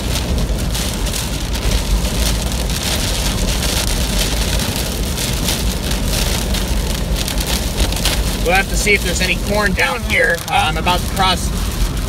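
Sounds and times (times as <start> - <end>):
heavy rain on car: 0.0 - 12.0
wind buffeting vehicle: 0.0 - 12.0.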